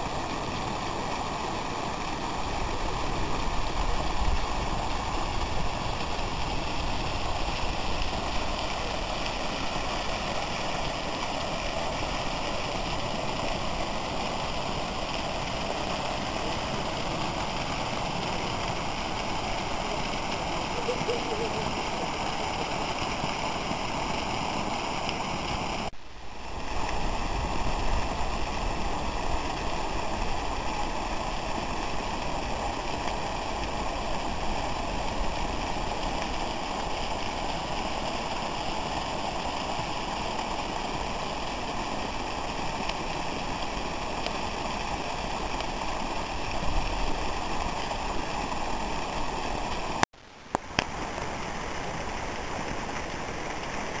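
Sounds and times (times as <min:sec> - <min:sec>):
water rushing down terraces: 0:00.0 - 0:54.0.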